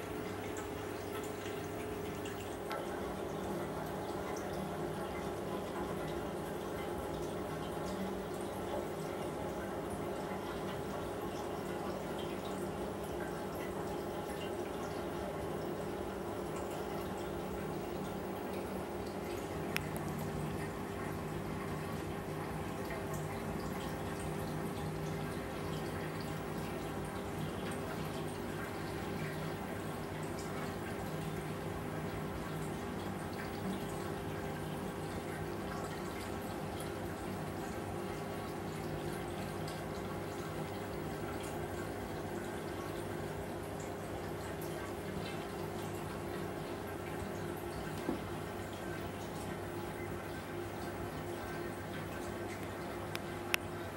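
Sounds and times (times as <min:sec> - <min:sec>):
aquarium water trickling: 0:00.0 - 0:53.9.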